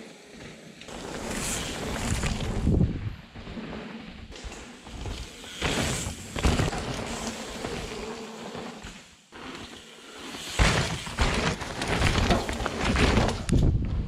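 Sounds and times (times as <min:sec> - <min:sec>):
bikes rattling: 0:00.9 - 0:13.8
tyres rolling over dirt and rock: 0:00.9 - 0:13.8.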